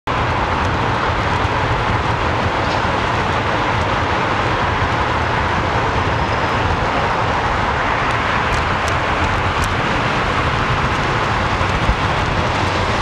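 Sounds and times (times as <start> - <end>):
road noise: 0.1 - 13.0
wind rush: 0.1 - 13.0.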